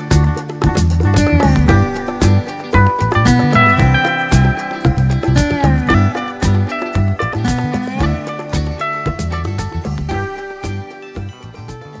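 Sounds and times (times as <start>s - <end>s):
music with percussion and bass: 0.0s - 12.0s.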